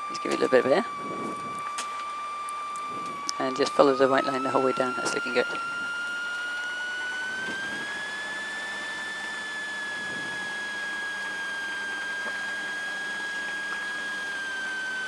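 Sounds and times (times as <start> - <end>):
aircraft engine and propeller drone: 0.0 - 15.0
high whine: 0.0 - 15.0.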